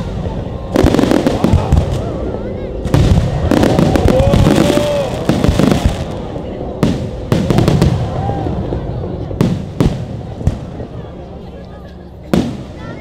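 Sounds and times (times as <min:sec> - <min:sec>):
fireworks bursting: 0:00.0 - 0:10.9.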